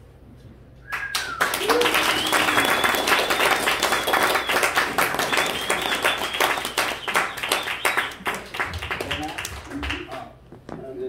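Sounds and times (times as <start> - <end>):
audience clapping: 0.9 - 10.4.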